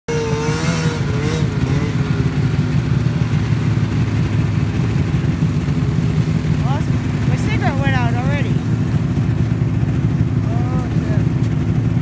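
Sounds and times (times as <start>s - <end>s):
snowmobile engine running: 0.1s - 12.0s.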